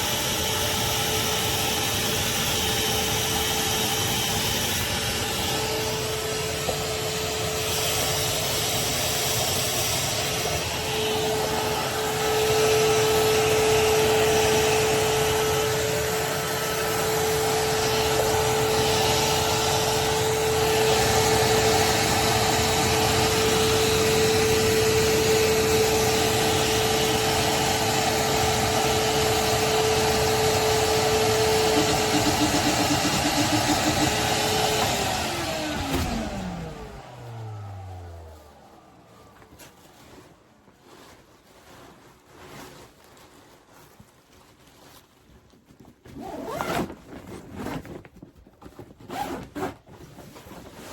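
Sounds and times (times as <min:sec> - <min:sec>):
shop vacuum running: 0:00.0 - 0:41.8.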